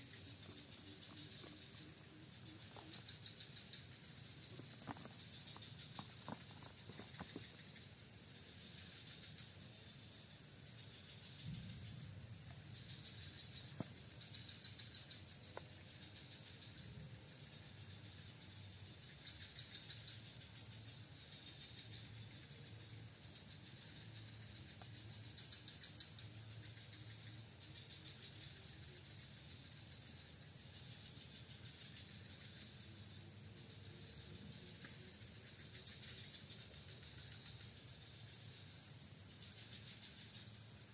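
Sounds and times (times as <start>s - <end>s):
fast pulsing insect chirps: 0.0s - 40.9s
insects droning: 0.0s - 40.9s.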